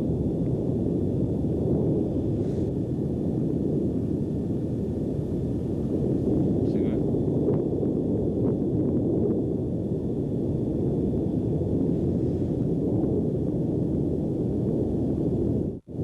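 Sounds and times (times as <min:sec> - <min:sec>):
volcano erupting rumble: 0:00.0 - 0:16.0.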